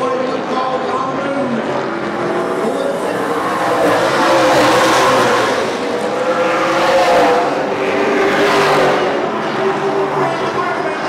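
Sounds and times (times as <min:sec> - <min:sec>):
race cars passing at speed: 0:00.0 - 0:11.0.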